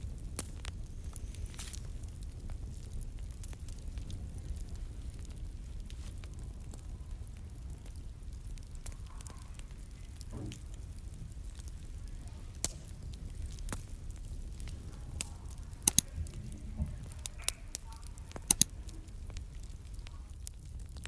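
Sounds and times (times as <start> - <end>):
low steady rumble: 0.0 - 21.0
wood fire crackling and popping: 0.0 - 21.0.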